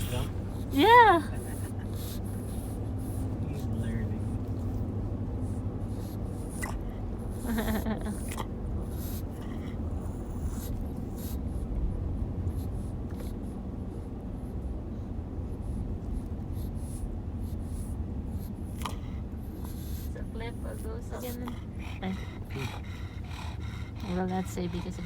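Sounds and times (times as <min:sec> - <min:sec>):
car driving rumble inside cabin: 0:00.0 - 0:25.0.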